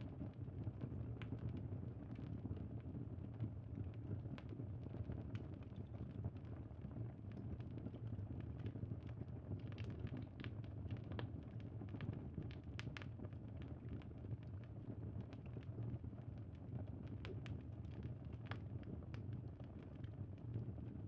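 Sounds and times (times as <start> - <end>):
low fire rumble: 0.1 - 21.0.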